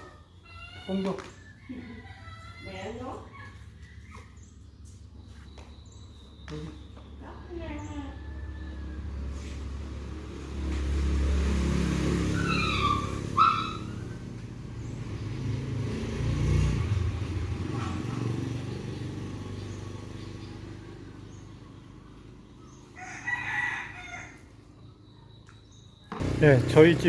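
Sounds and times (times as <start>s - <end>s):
motorbike engine passing: 0.9s - 25.0s, 26.1s - 27.0s.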